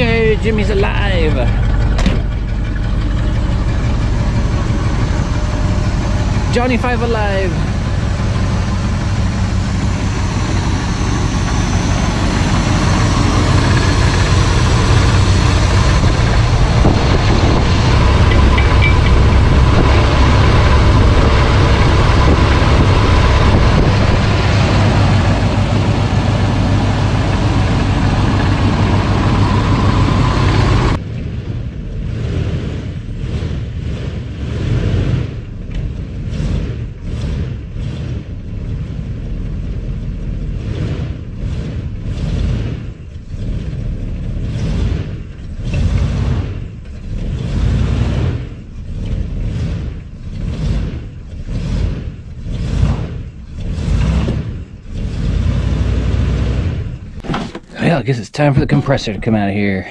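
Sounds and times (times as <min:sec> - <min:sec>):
pickup truck engine running: 0:00.0 - 0:59.9.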